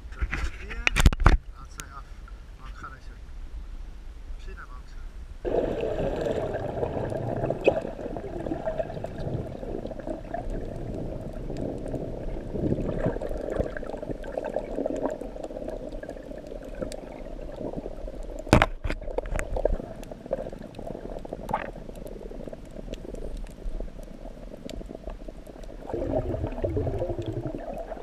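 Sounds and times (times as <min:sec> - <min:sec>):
steady water noise: 0:05.4 - 0:28.0.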